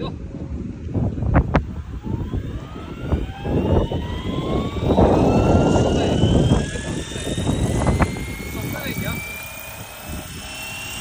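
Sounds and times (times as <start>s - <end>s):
rushing rotor noise: 0.1s - 11.0s
rotor motor whine rising: 0.9s - 11.0s.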